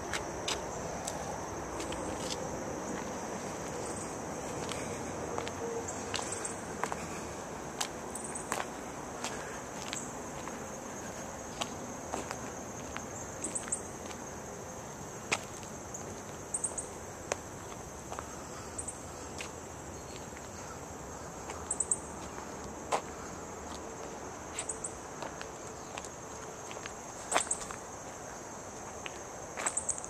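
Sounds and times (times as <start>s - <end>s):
footsteps crunching on gritty asphalt: 0.0s - 16.5s, 17.1s - 18.6s, 19.2s - 30.0s
high-pitched insect chorus: 0.0s - 30.0s.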